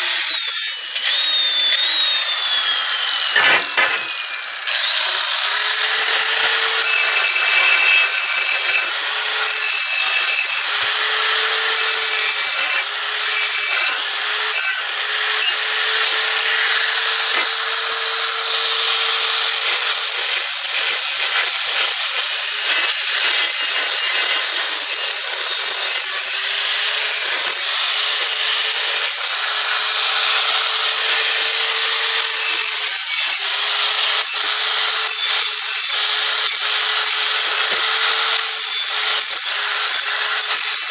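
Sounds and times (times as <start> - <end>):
angle grinder motor whine: 0.0 - 40.9
grinding disc rasping on metal: 0.0 - 40.9.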